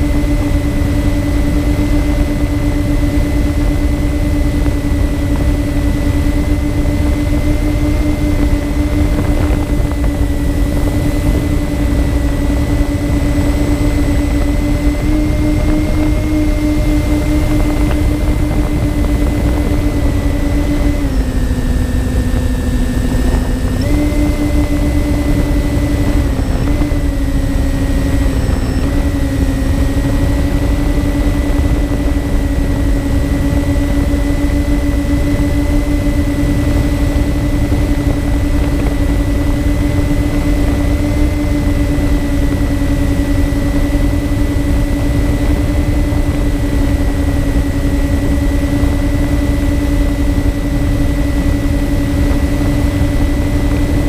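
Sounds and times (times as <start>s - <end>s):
electric propeller hum: 0.0s - 54.0s
wind rush on microphone: 0.0s - 54.0s.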